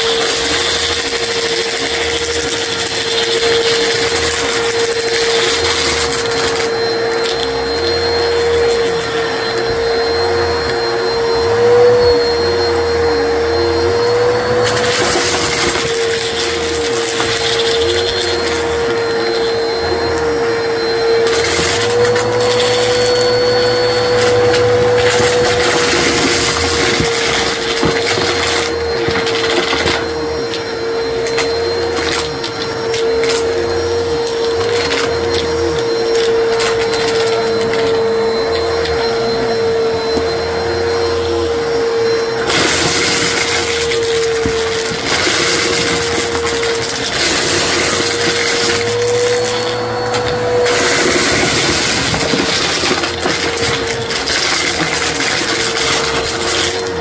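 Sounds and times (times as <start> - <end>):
brushroll crunching plastic bits: 0.0 - 10.9, 12.2 - 20.4, 21.2 - 39.0, 42.4 - 57.0
vacuum cleaner motor whine: 0.0 - 57.0.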